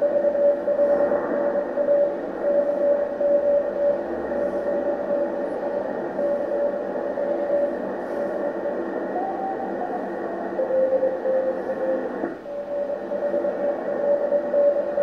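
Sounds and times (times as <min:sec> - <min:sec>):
faint tones of other signals: 0:00.0 - 0:15.0
morse code tone: 0:00.0 - 0:15.0
static hiss: 0:00.0 - 0:15.0.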